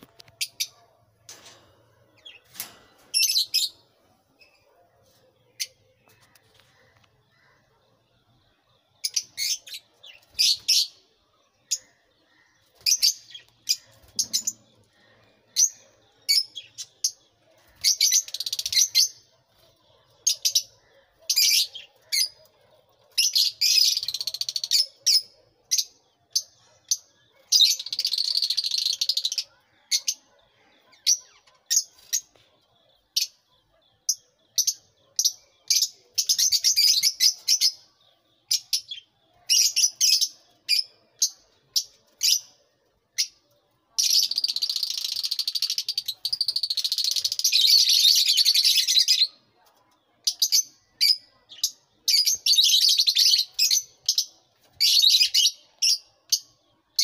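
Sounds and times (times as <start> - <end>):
birds shrill chattering: 0.0 - 57.0
lovebirds chirping: 0.0 - 57.0.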